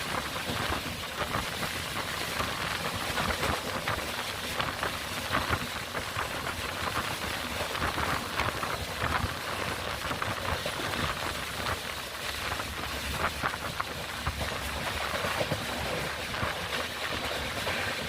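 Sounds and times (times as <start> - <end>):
heavy rain pattering on a train: 0.0 - 18.0
rumble of moving train: 0.0 - 18.0.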